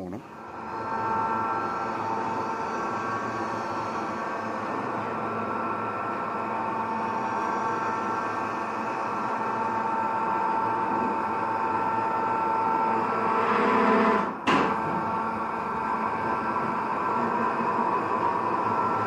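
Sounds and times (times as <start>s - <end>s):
hoist motor whine: 0.3s - 19.0s.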